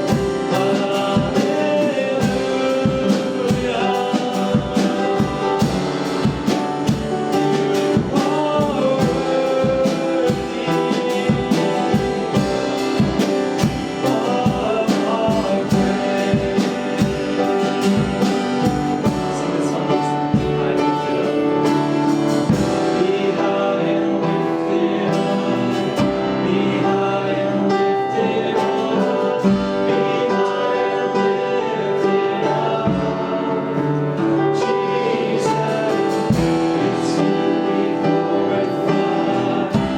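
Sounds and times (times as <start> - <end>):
drums: 0.0 - 39.9
worship song with singing: 0.0 - 39.9.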